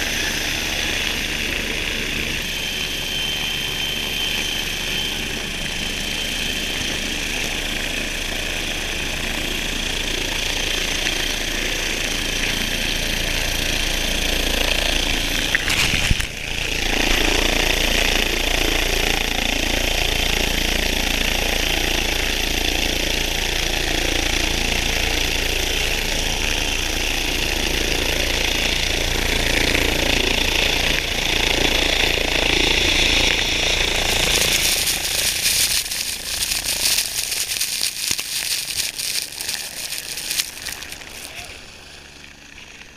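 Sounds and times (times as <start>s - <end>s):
helicopter turbine whine and rotor chop: 0.0s - 42.9s.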